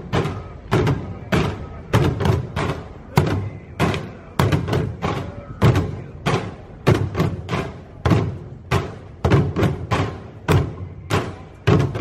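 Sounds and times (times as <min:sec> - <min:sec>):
drumming on plastic bins: 0:00.0 - 0:12.0.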